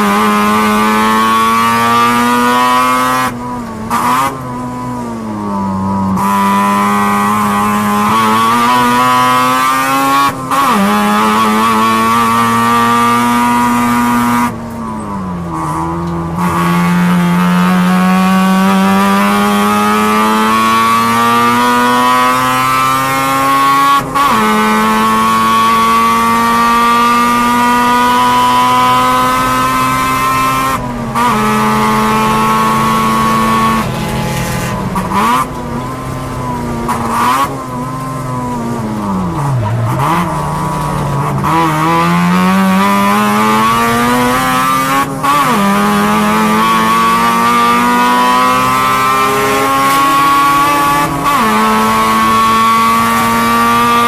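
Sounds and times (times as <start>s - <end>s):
rotary race car engine revving: 0.0s - 54.0s.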